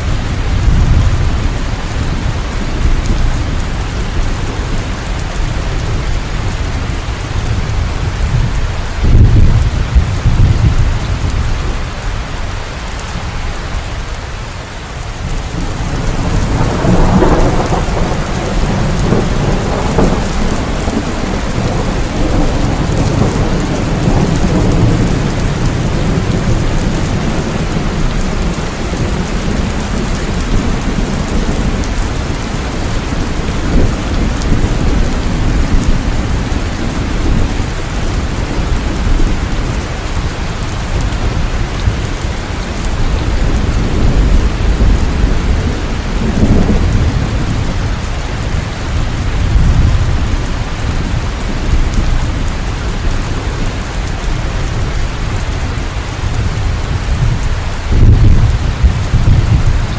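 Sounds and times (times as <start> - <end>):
rolling thunder: 0.0 - 12.0, 15.2 - 59.9
heavy rain: 0.0 - 59.9.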